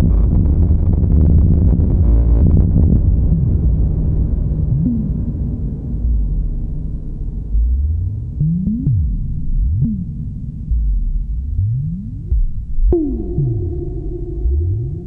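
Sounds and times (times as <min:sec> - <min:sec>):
analog synthesizer drone: 0:00.0 - 0:15.0.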